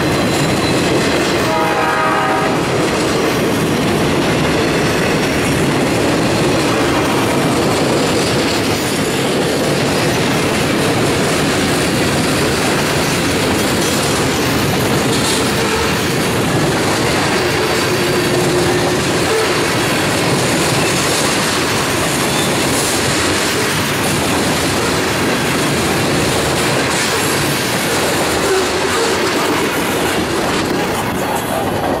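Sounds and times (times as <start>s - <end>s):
freight train wheels clacking: 0.0s - 32.0s.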